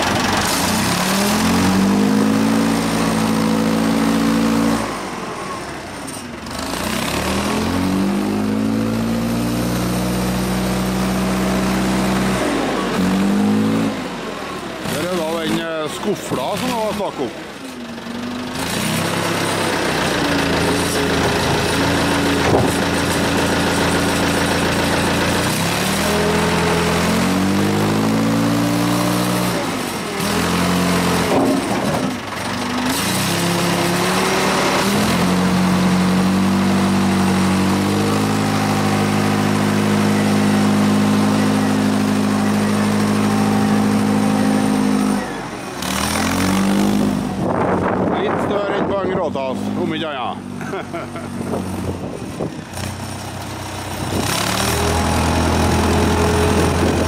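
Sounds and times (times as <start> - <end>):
wheel loader diesel engine: 0.0 - 57.0.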